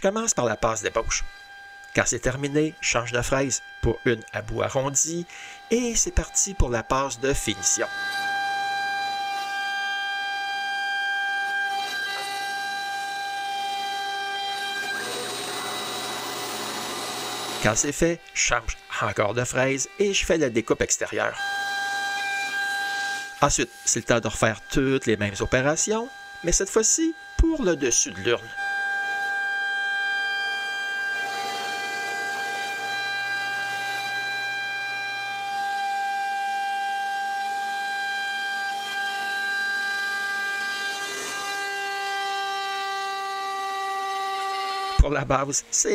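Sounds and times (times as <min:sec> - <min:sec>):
router spindle whining: 0:00.0 - 0:45.9
bit milling wood: 0:00.2 - 0:45.9.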